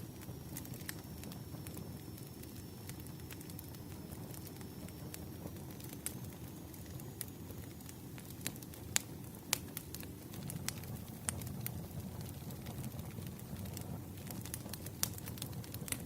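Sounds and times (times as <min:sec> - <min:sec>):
firewood crackles and pops: 0:00.0 - 0:16.0
low rumble of flames: 0:00.0 - 0:16.0.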